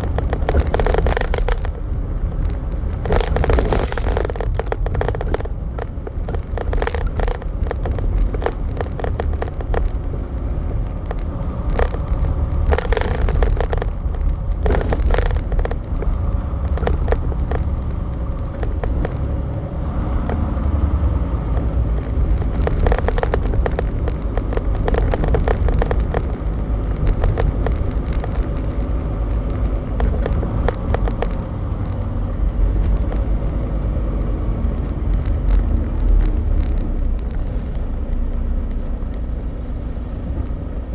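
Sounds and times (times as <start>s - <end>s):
cab clicks and rattles: 0.0s - 40.9s
truck engine and road rumble: 0.0s - 40.9s.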